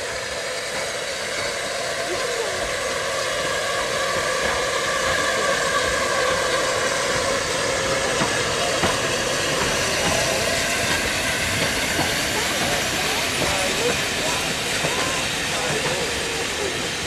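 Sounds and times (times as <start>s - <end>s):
steam hissing: 0.0s - 17.0s
train wheels on rails: 0.0s - 17.0s.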